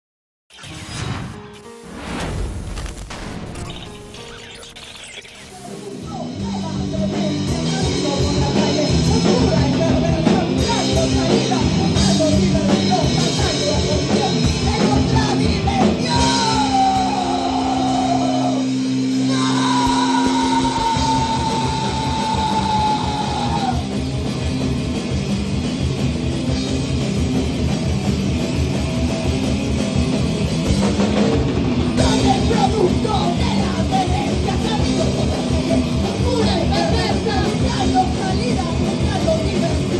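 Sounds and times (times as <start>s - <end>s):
heavy punk metal band playing: 1.6s - 39.9s.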